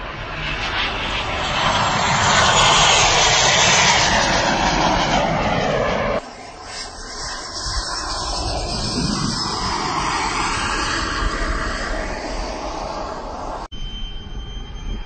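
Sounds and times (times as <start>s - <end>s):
model jet whooshing by: 0.0s - 13.7s
quiet jet engine: 0.0s - 15.0s.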